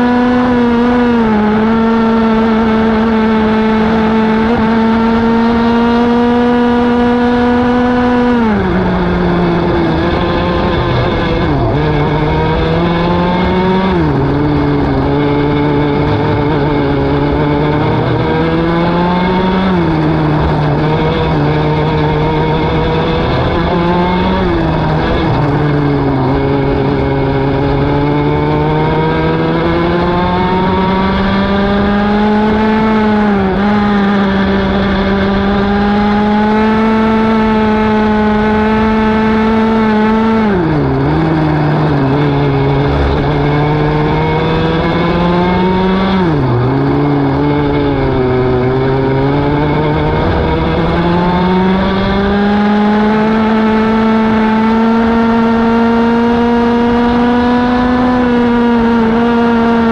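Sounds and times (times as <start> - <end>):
racing kart engine: 0.0 - 59.9.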